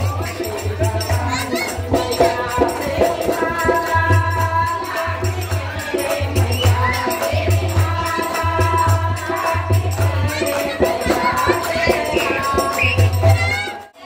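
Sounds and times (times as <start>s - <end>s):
rhythmic hand-clapping: 0.0s - 14.0s
women singing in chorus: 0.0s - 14.0s.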